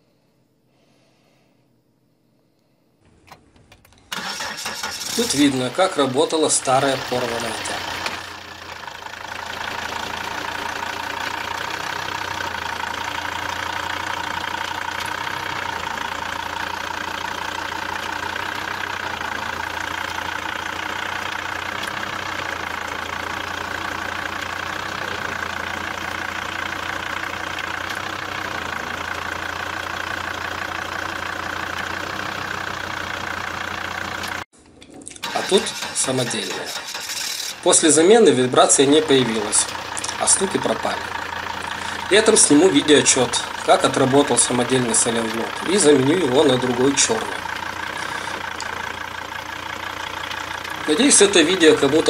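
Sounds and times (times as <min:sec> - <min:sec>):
diesel engine idling: 0:03.1 - 0:34.5, 0:35.1 - 0:52.0.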